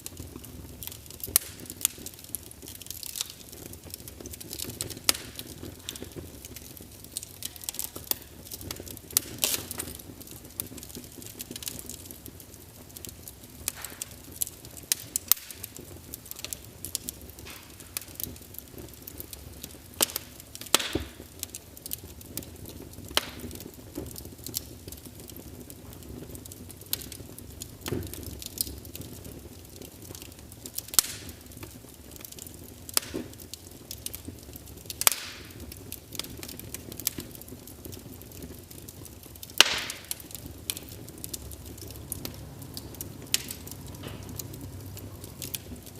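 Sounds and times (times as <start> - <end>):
fire crackling and popping: 0.0 - 45.9
low rumble of burning: 0.0 - 45.9.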